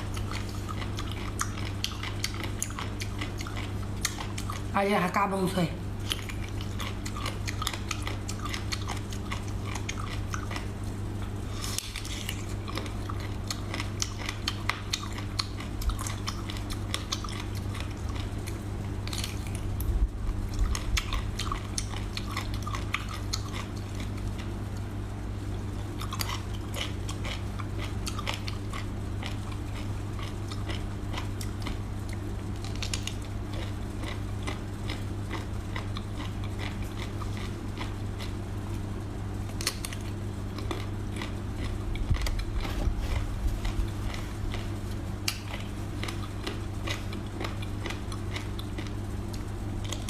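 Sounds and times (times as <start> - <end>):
chewing crunchy food: 0.0 - 5.1, 5.9 - 50.0.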